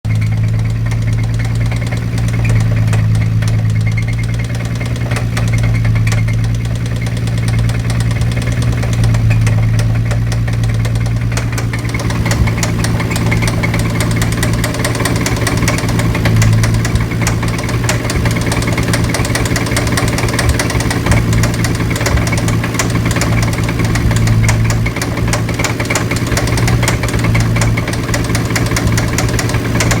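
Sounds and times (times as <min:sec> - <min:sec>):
car engine knocking: 0:00.0 - 0:30.0.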